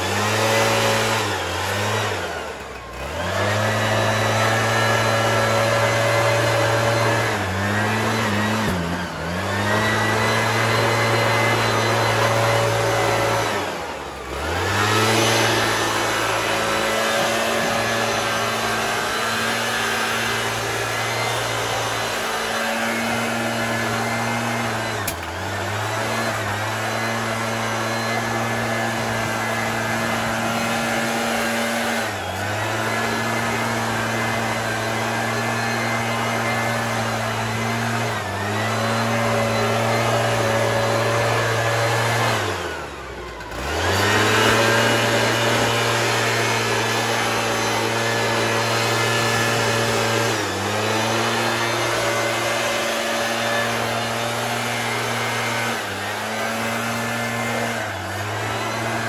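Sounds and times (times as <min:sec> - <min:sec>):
leaf blower engine running: 0:00.0 - 0:59.0.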